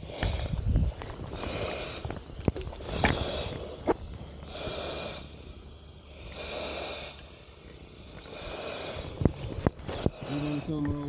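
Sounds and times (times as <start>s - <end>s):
hissing breaths through regulator: 0.0s - 11.0s.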